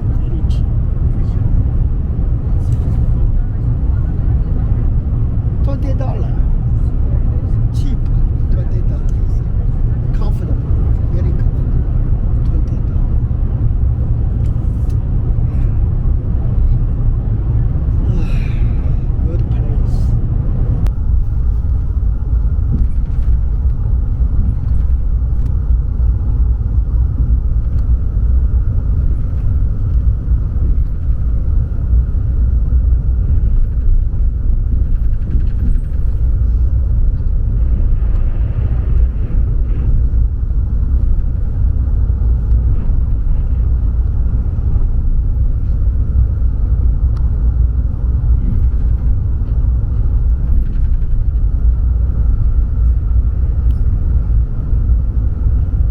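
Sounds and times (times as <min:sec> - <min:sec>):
train rumble inside carriage: 0:00.0 - 0:55.9.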